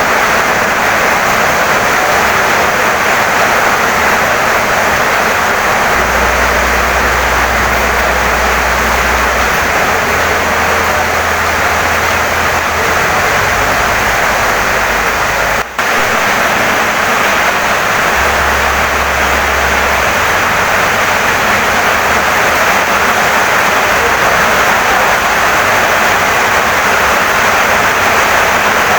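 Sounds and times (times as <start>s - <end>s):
heavy rain on a wooden house: 0.0s - 28.9s.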